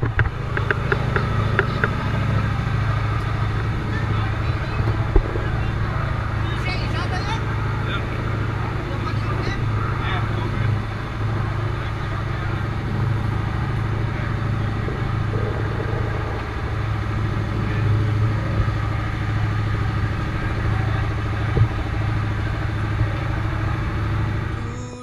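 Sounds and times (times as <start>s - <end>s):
wake rushing along hull: 0.0s - 24.7s
boat engine droning: 0.0s - 25.0s.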